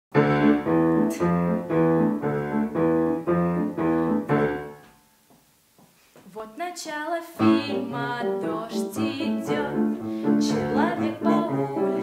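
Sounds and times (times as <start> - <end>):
piano chords: 0.1 - 5.2, 7.3 - 12.0.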